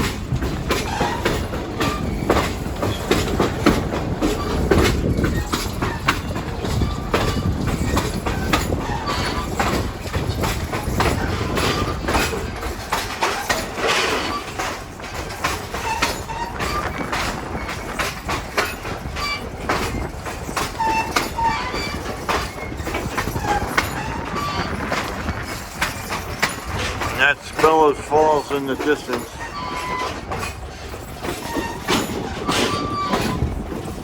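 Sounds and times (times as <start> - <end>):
low train rumble: 0.0 - 34.0
train wheels clicking over rails: 0.0 - 34.0
wheel squeals: 0.0 - 34.0.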